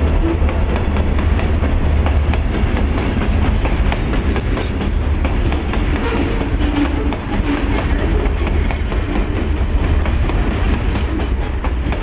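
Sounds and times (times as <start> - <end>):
steel wheels rumbling on rails: 0.0 - 12.0
wheels clacking over rail joints: 0.0 - 12.0.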